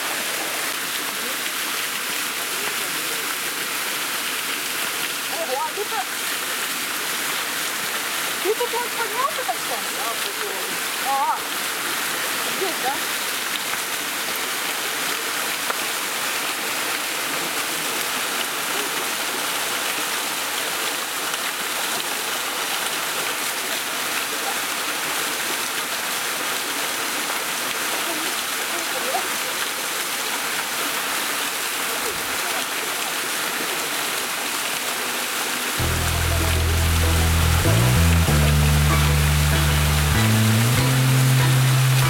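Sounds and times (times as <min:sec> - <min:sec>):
stream pouring over waterfalls: 0:00.0 - 0:42.0.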